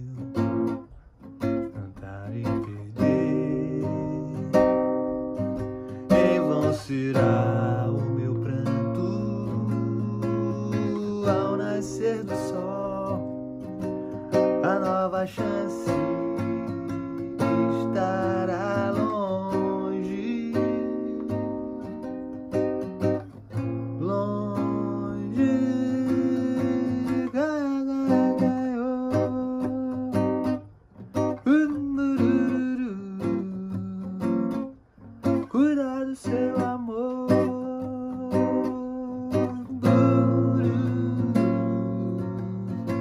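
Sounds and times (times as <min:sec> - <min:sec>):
man singing: 0:00.0 - 0:21.9, 0:23.8 - 0:30.6, 0:31.2 - 0:43.0
acoustic guitar: 0:00.0 - 0:43.0.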